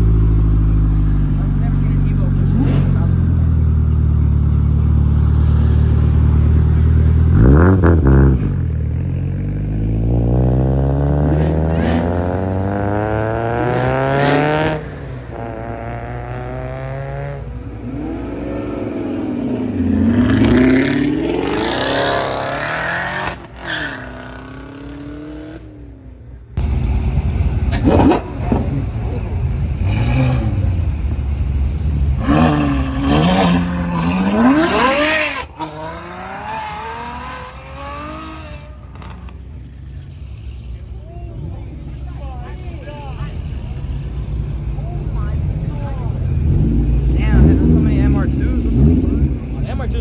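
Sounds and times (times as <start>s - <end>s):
car engine running: 0.0s - 23.4s, 26.5s - 50.0s
car accelerating hard: 0.0s - 25.9s, 26.6s - 50.0s
engine revving: 0.0s - 25.9s, 26.6s - 50.0s.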